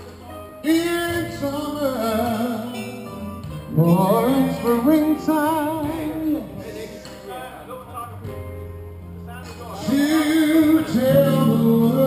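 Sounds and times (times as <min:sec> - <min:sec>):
man singing into microphone: 0:00.5 - 0:08.2, 0:09.7 - 0:12.0.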